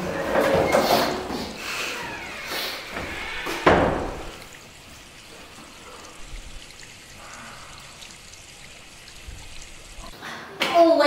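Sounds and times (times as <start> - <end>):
urine trickling into urinal: 0.7 - 10.2.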